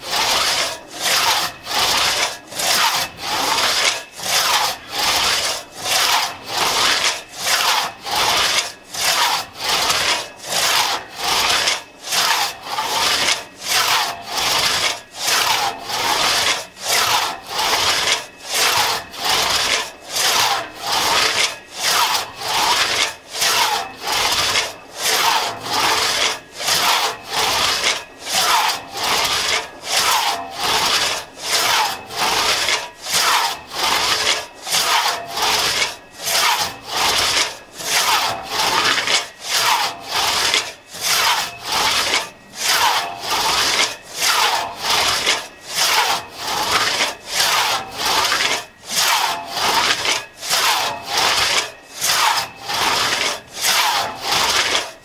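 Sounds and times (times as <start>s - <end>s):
hand saw rasping through log: 0.0s - 55.0s.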